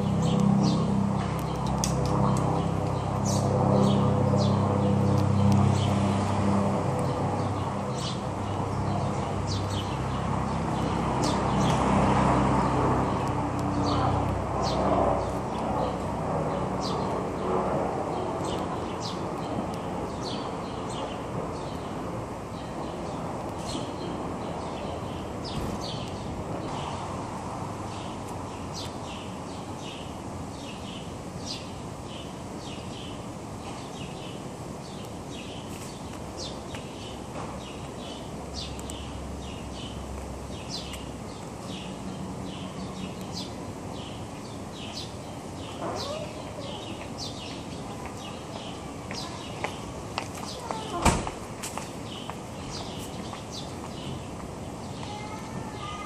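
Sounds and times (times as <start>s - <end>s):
low street background noise: 0.0s - 56.0s
small birds chirping: 0.0s - 56.0s.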